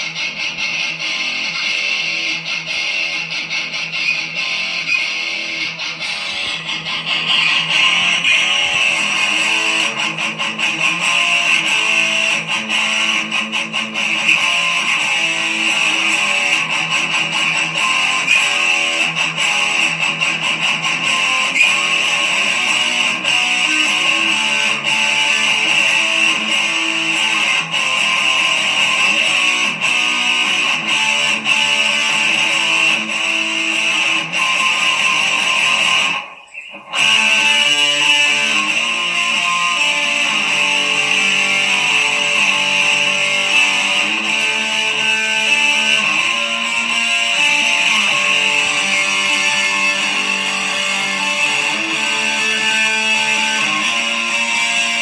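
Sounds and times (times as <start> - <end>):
background music with guitar: 0.0 - 55.0.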